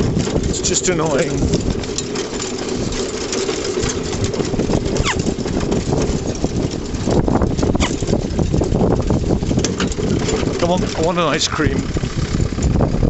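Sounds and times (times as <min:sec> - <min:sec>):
cart rattling over grass: 0:00.0 - 0:13.0.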